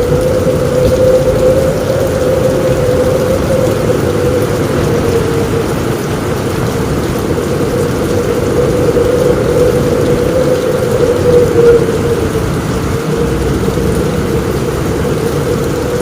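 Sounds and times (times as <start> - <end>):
heavy rain on a roof: 0.0 - 16.0
low rumble: 0.0 - 16.0.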